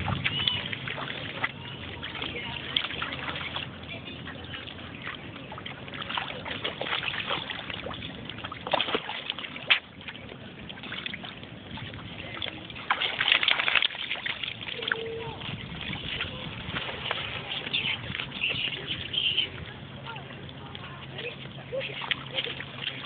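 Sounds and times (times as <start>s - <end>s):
dogs splashing in water: 0.0s - 23.0s.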